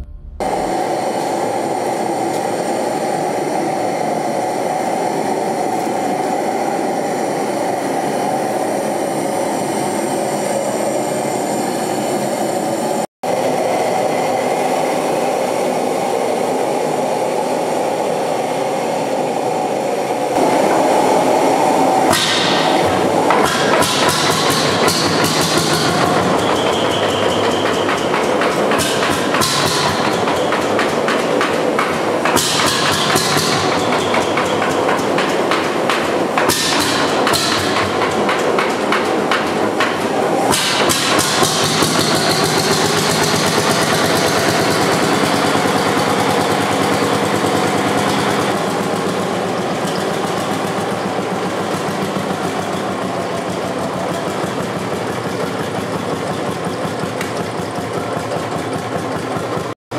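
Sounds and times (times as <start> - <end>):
propane burner hissing: 0.5 - 57.2.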